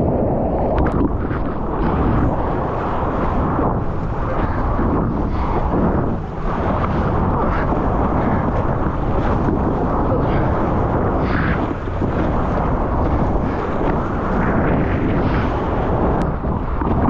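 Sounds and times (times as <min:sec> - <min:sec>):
wind and rushing water roar: 0:00.0 - 0:17.0
wind buffeting microphone: 0:00.0 - 0:17.0.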